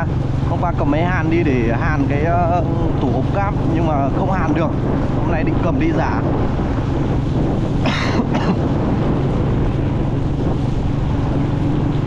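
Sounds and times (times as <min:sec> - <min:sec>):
motorbike engine running: 0:00.0 - 0:12.0
wind buffeting microphone: 0:00.0 - 0:12.0.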